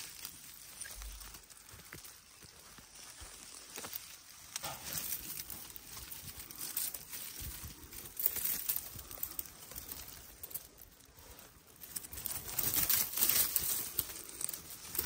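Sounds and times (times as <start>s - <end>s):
dry twigs and leaves crackling: 0.0s - 15.0s.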